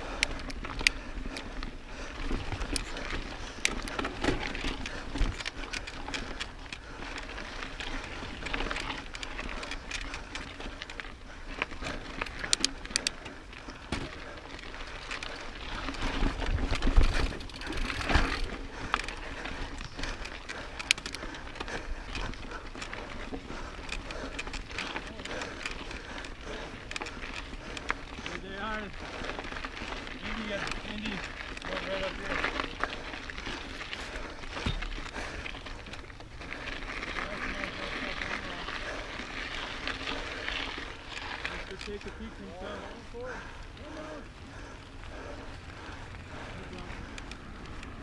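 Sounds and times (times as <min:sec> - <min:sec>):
bike clicks and rattles: 0:00.0 - 0:48.0
bike tyres crunching on rock: 0:00.0 - 0:48.0.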